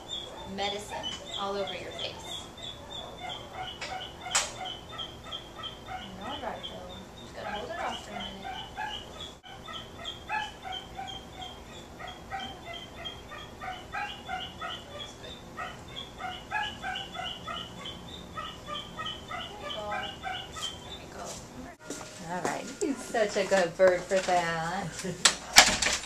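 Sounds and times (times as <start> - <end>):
cockatiel calling: 0.0 - 21.3.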